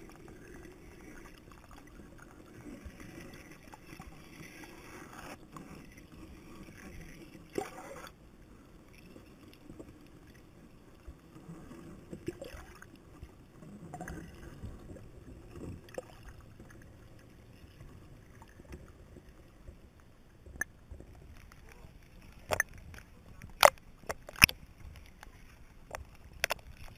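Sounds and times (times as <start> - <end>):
muffled underwater rumble: 0.0 - 26.9.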